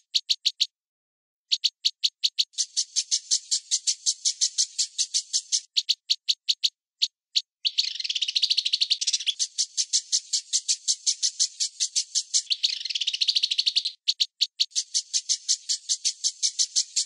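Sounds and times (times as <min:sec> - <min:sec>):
rapid high-pitched chirping: 0:00.0 - 0:00.7, 0:01.5 - 0:17.0.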